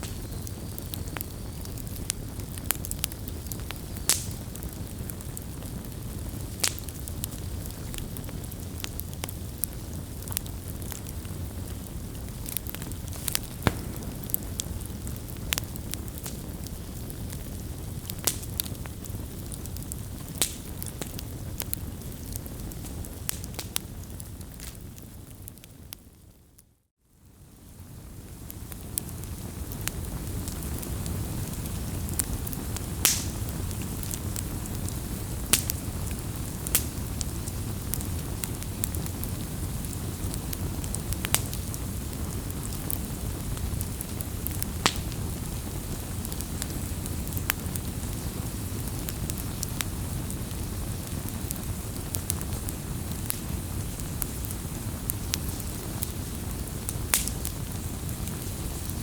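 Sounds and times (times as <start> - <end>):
flames low rumble: 0.0 - 26.6, 27.2 - 59.0
fire crackles and pops: 0.0 - 59.0.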